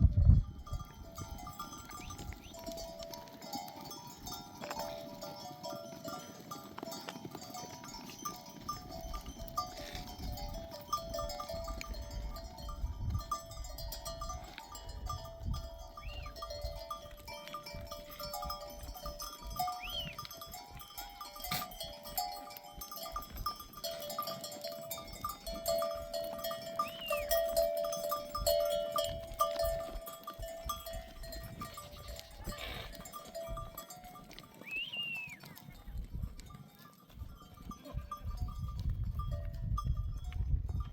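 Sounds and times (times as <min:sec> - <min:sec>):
animal bells clinking: 0:00.1 - 0:40.9
sheep and goats bleating: 0:01.2 - 0:38.6.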